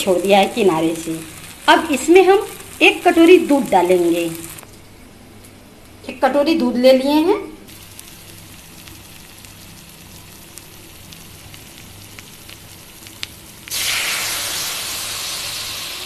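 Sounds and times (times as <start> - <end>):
spice paste sizzling in fat: 0.0 - 4.6, 7.7 - 16.0
loud hissing sizzle: 0.0 - 4.7, 7.7 - 16.0.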